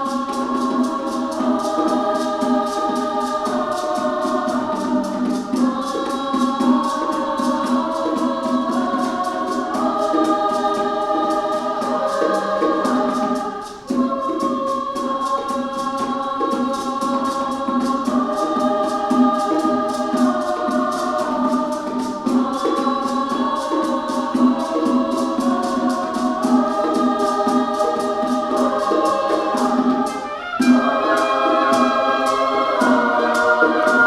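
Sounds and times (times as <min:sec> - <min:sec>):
hand percussion pulse: 0:00.0 - 0:34.0
women's choir singing chords: 0:00.0 - 0:34.0.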